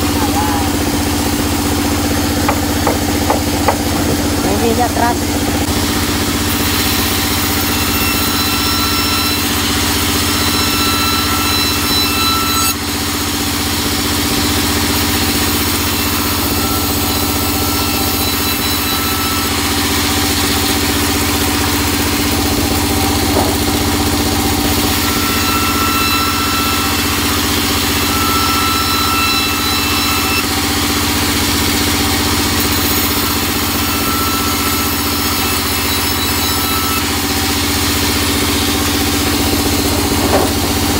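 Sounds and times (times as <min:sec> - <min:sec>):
band saw humming: 0:00.0 - 0:40.9
saw blade whining: 0:00.0 - 0:40.9.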